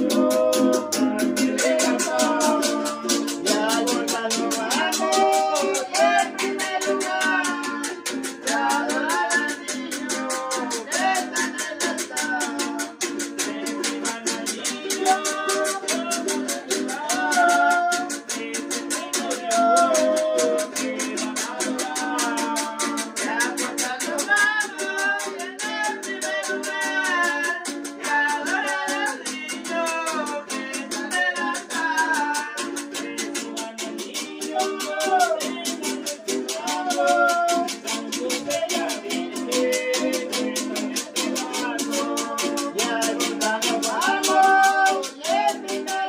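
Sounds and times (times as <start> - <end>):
metal can scraper rhythm: 0.0 - 46.0
strummed cuatro: 0.0 - 46.0
voices singing: 0.0 - 46.0.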